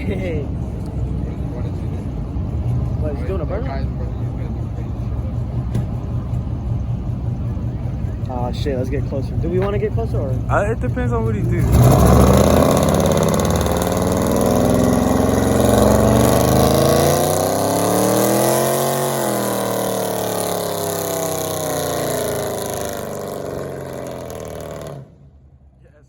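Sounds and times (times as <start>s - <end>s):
car engine revving: 0.0s - 25.6s.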